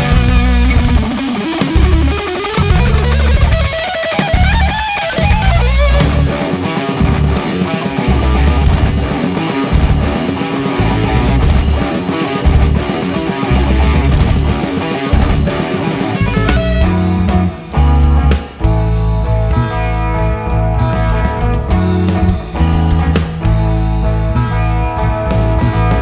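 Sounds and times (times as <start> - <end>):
heavy electric guitar riffing: 0.0 - 26.0
instrumental progressive metal: 0.0 - 26.0.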